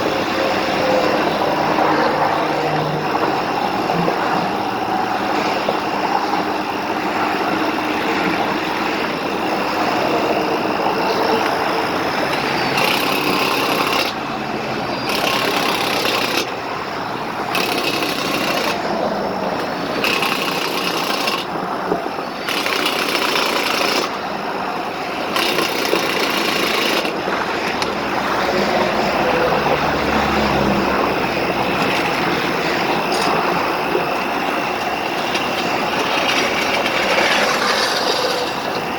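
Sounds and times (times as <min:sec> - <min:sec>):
heavy highway traffic passing: 0:00.0 - 0:38.9.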